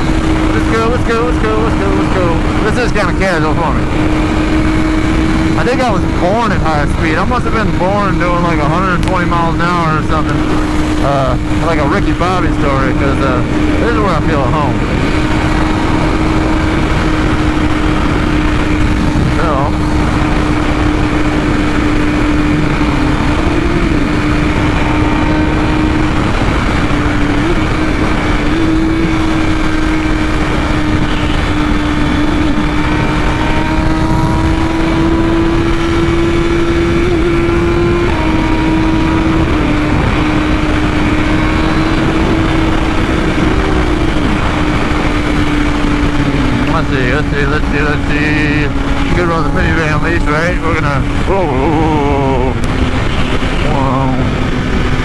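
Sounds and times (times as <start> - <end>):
motorcycle engine at high revs: 0.0 - 55.0
wind rush: 0.0 - 55.0.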